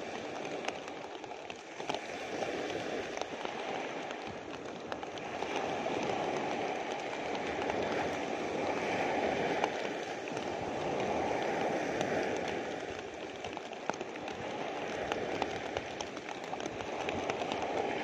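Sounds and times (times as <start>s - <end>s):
rain ticking on plastic sheet: 0.0s - 18.0s
small waves breaking: 0.0s - 18.0s.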